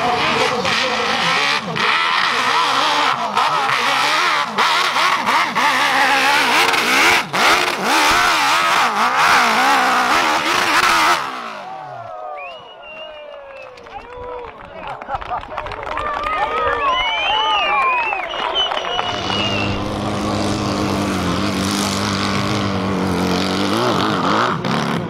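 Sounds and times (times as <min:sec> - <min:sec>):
dirt bike engines revving: 0:00.0 - 0:14.0, 0:14.6 - 0:25.0.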